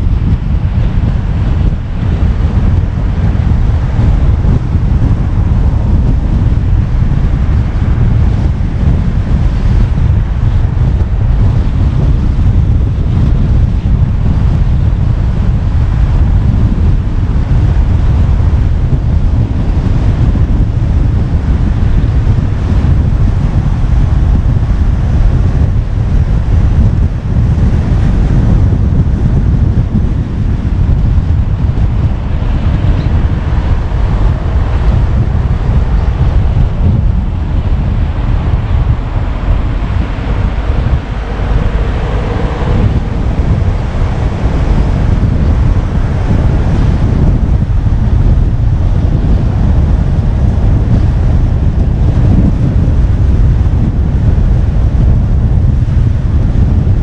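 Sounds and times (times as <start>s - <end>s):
car road noise: 0.0s - 57.0s
wind buffeting microphone: 0.0s - 57.0s.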